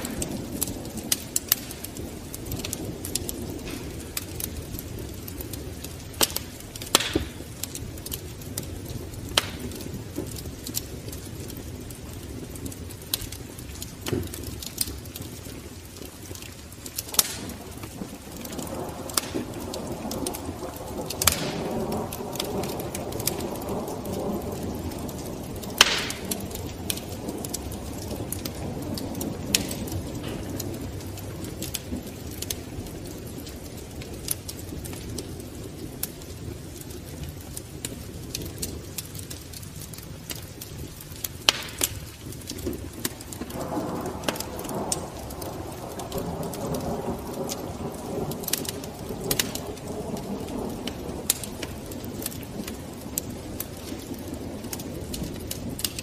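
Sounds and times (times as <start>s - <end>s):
burning logs crackling and popping: 0.0s - 56.0s
wood fire hissing: 0.0s - 56.0s.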